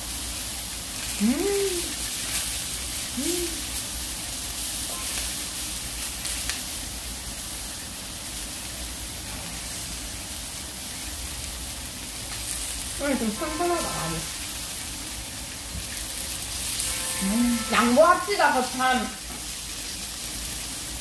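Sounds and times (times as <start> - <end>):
steak sizzling: 0.0 - 21.0
fat spattering crackles: 0.4 - 8.8, 10.1 - 21.0.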